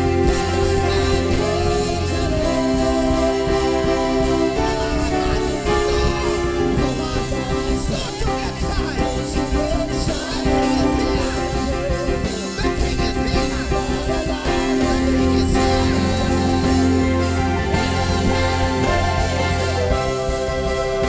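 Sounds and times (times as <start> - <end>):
singer's wordless vocal runs: 0.0 - 21.0
worship band music: 0.0 - 21.0.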